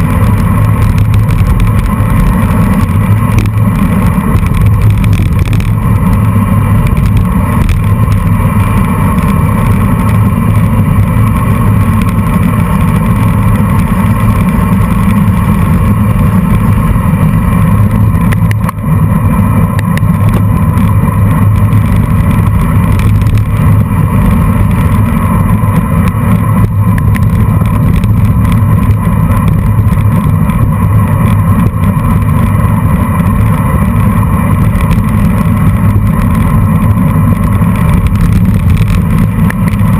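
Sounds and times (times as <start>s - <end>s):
tyre and road noise: 0.0s - 39.9s
wind rushing over microphone: 0.0s - 39.9s.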